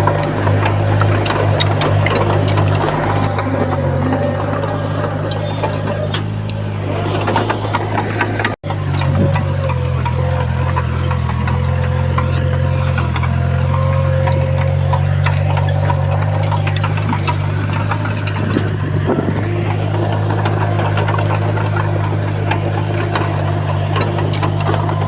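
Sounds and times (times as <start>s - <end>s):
clicks and knocks: 0.0s - 25.0s
diesel engine running: 0.0s - 25.0s.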